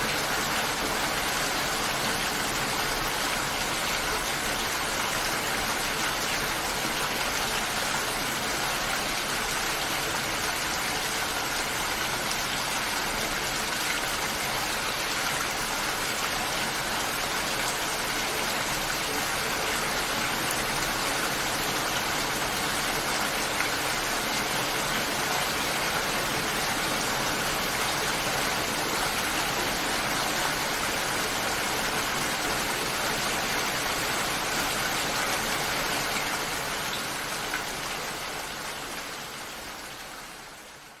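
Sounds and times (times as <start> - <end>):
steady dense rainfall: 0.0 - 41.0.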